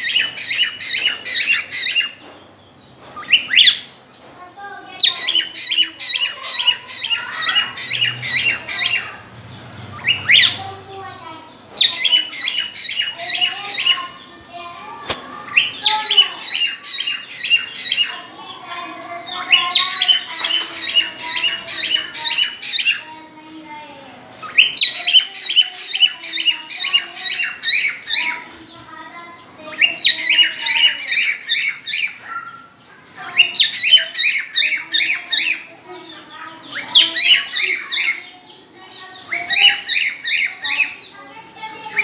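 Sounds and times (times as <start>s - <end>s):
cockatiels chirping: 0.0s - 2.4s, 3.1s - 42.0s.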